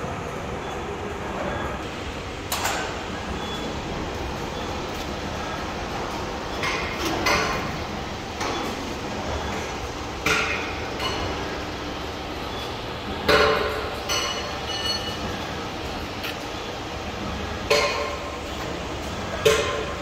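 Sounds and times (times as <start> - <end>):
machine shop background noise: 0.0 - 20.0.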